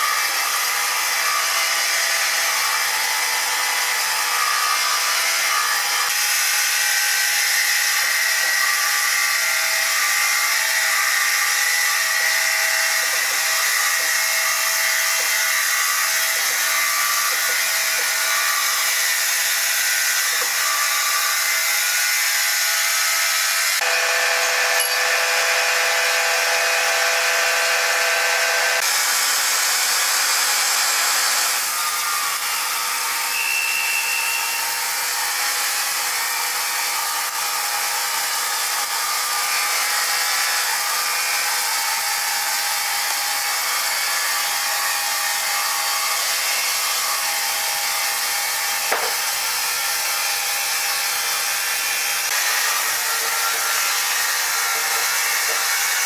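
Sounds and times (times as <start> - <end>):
saw blade whining through wood: 0.0 - 56.0.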